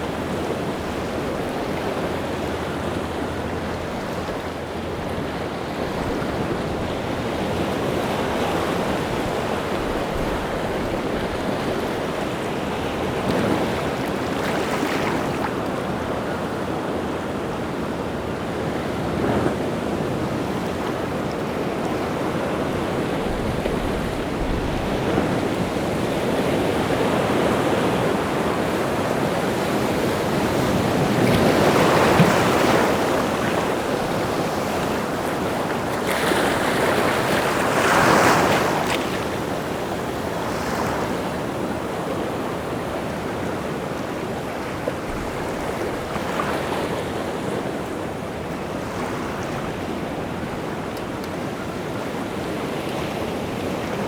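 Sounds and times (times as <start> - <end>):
big waves breaking: 0.0 - 54.0
rough sea waves washing: 0.0 - 54.0.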